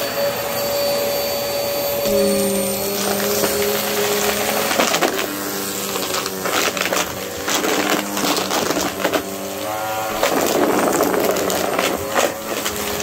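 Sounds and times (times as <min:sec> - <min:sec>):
debris clattering in vacuum: 0:00.0 - 0:13.0
vacuum cleaner running over carpet: 0:00.0 - 0:13.0.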